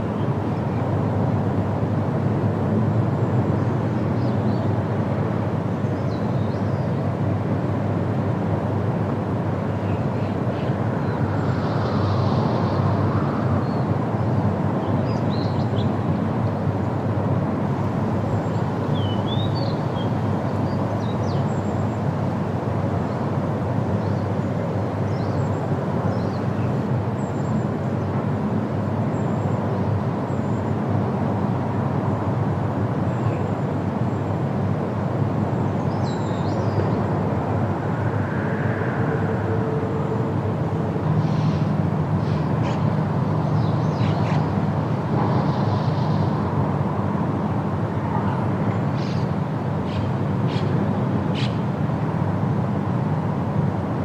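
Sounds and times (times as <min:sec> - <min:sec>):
wind rushing through trees: 0:00.0 - 0:54.0.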